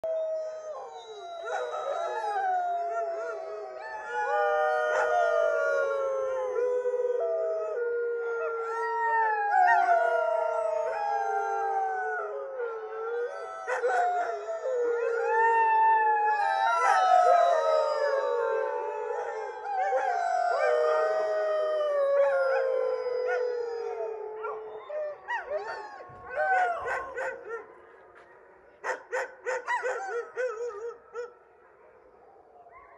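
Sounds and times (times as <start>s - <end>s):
huskies howling together: 0.0s - 27.6s.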